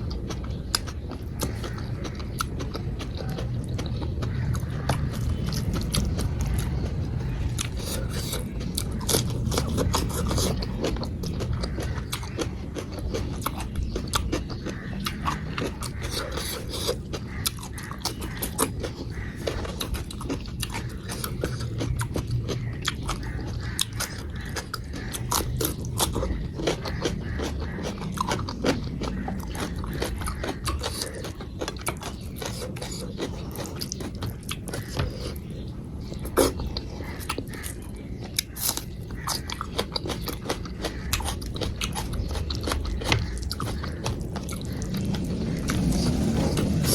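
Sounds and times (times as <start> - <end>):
person chewing and biting: 0.0 - 46.9.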